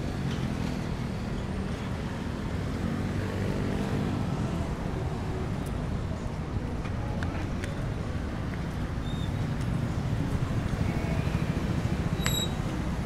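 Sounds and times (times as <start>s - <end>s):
road traffic drone: 0.0s - 13.0s.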